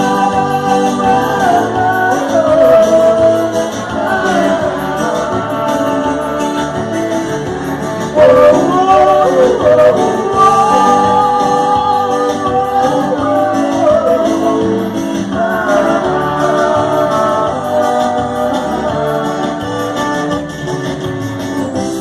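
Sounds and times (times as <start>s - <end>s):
person singing long bending notes: 0.0s - 20.2s
band playing: 0.0s - 22.0s.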